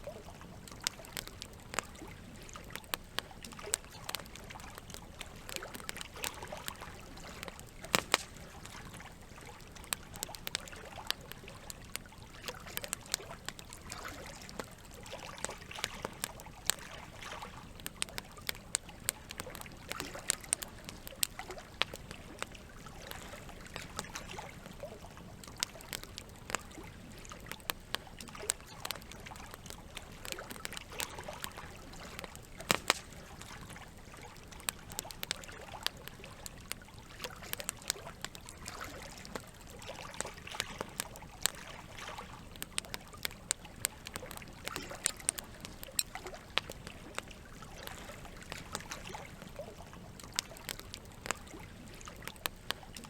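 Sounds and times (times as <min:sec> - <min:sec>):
campfire crackling and popping: 0:00.0 - 0:53.0
flowing water: 0:00.0 - 0:53.0.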